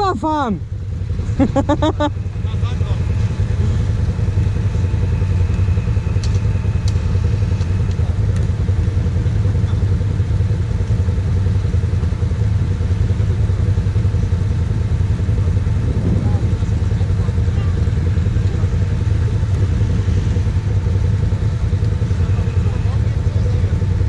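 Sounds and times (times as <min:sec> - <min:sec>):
quad engine idling: 0:00.0 - 0:24.0.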